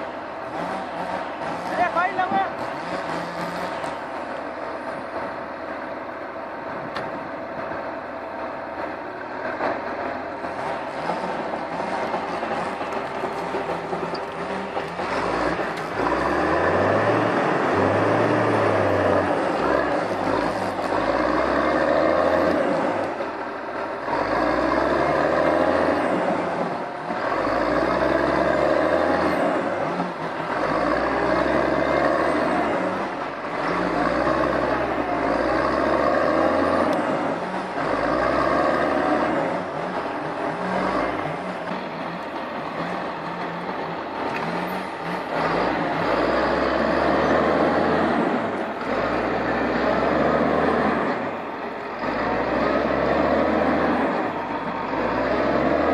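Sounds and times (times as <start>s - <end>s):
diesel engine revving under load: 0.0s - 55.9s.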